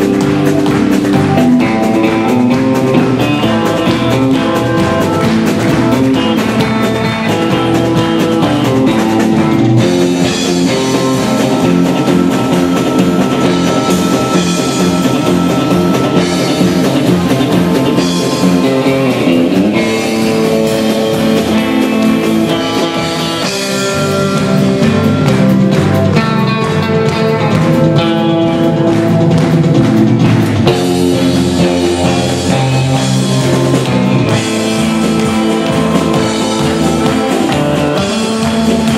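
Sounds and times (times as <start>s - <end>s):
drums: 0.0s - 38.9s
lead guitar: 0.0s - 38.9s.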